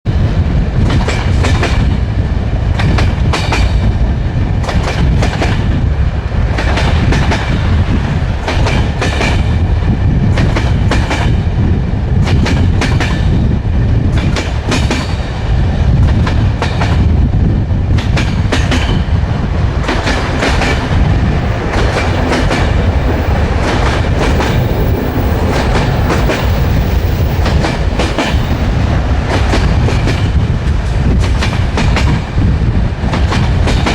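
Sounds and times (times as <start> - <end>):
heavy train rumble: 0.0 - 33.9
train wheels clickety-clack: 0.1 - 33.9.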